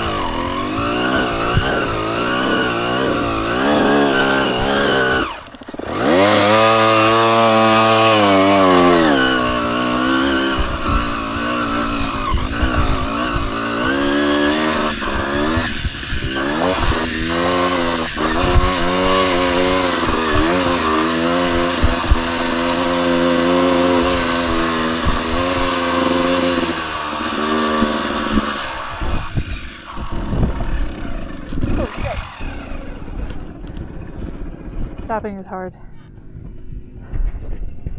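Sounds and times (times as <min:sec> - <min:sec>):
dirt bike engine revving: 0:00.0 - 0:35.5.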